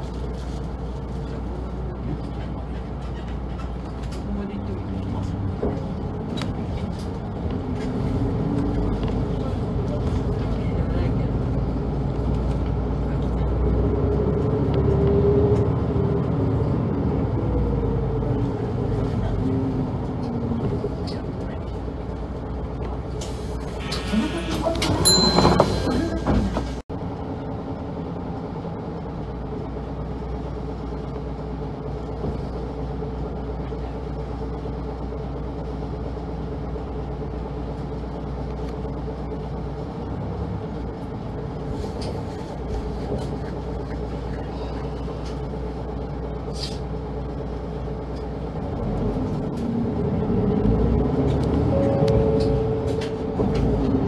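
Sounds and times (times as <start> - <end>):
bus engine humming: 0.0 - 54.0.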